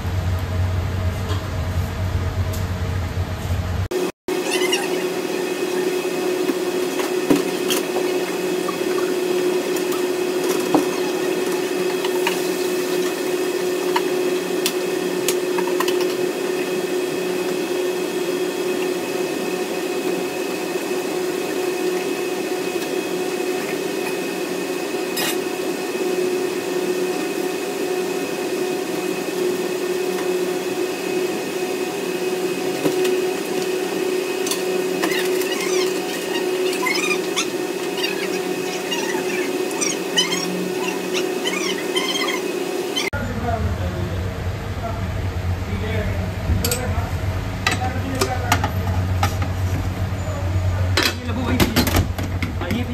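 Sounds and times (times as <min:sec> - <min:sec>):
oven fan and motor hum: 0:00.0 - 0:52.9.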